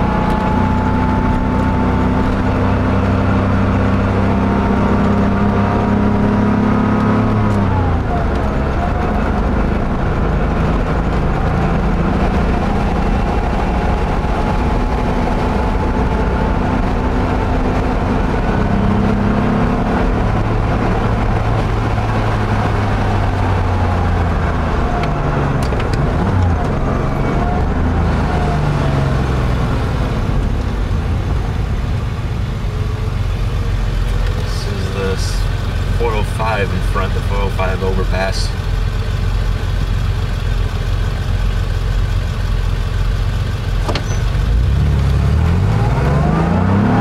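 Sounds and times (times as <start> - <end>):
car engine running: 0.0 - 47.0
tyre and road noise: 0.0 - 47.0.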